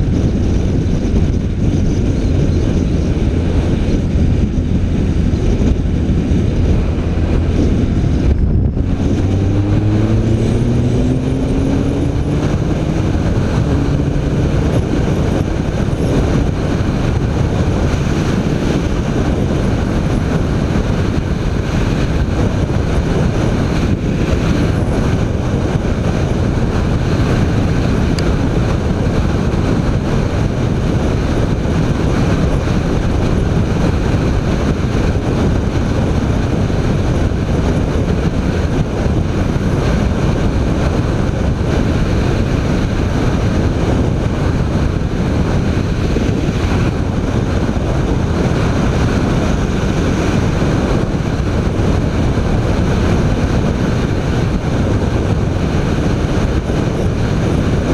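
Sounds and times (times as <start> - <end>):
motorcycle engine: 0.0 - 57.9
road noise: 0.0 - 57.9
wind rushing over microphone: 0.0 - 57.9.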